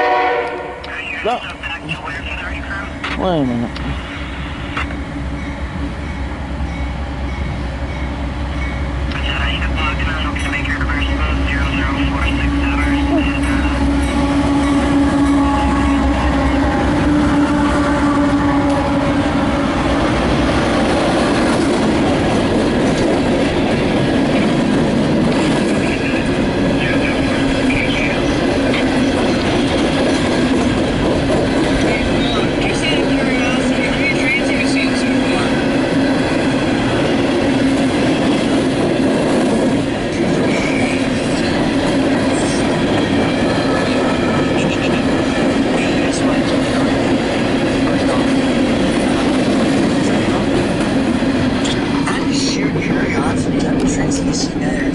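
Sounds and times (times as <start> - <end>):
steady train hum: 0.0 - 54.9.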